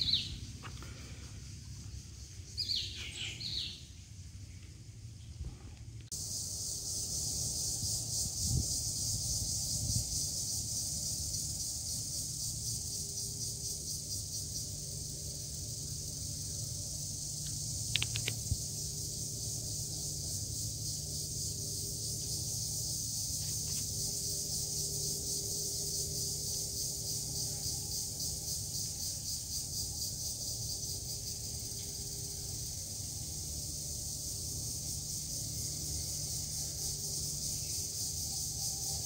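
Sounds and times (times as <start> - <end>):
insect chorus: 0.0 - 39.0
low steady hum: 0.0 - 39.0.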